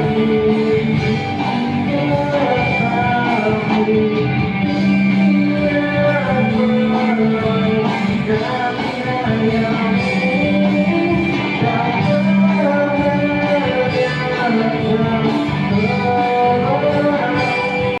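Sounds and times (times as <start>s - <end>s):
guitar accompaniment: 0.0s - 18.0s
person singing: 0.0s - 18.0s.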